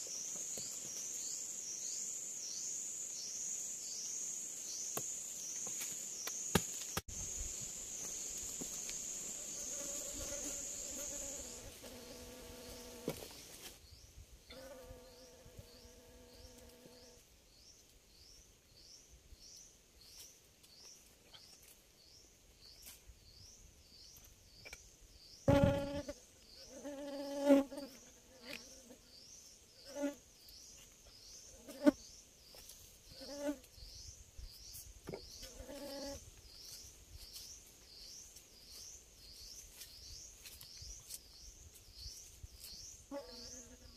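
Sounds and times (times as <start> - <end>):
insects buzzing: 0.0 - 20.9, 22.0 - 43.9
insect chirping: 0.0 - 43.9.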